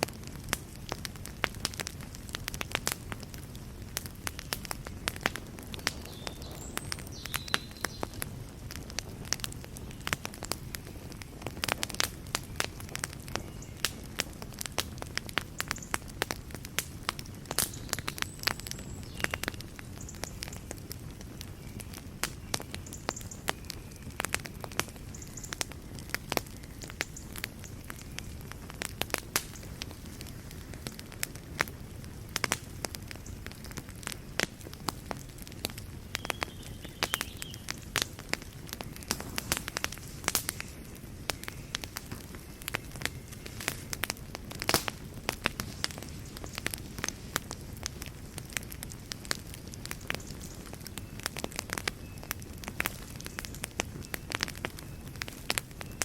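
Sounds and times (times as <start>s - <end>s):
fire crackling and popping: 0.0s - 56.0s
flames hissing: 0.1s - 55.7s.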